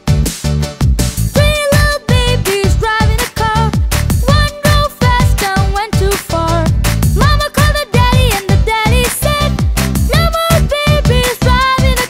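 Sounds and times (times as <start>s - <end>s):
bouncy nursery rhyme music: 0.0s - 12.0s.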